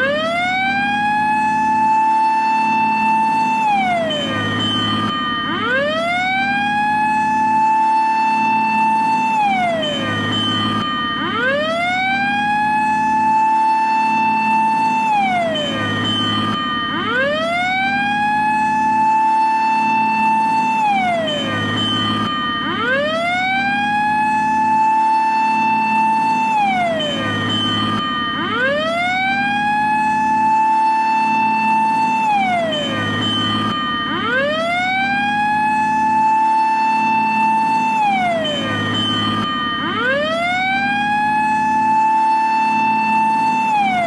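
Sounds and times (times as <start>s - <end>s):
fire engine siren wailing: 0.0s - 44.0s.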